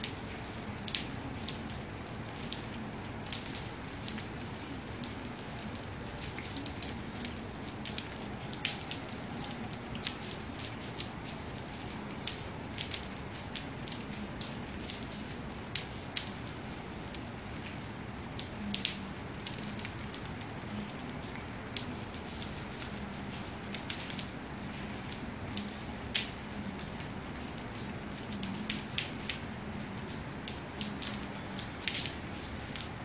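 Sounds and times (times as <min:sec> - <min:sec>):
raindrops ticking: 0:00.0 - 0:33.0
steady rain hiss: 0:00.0 - 0:33.0.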